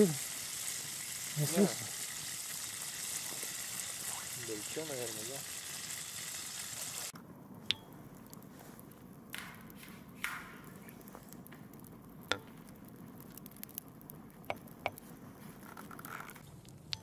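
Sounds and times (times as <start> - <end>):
campfire crackling: 0.0 - 17.0
faint steady hiss: 0.0 - 17.0.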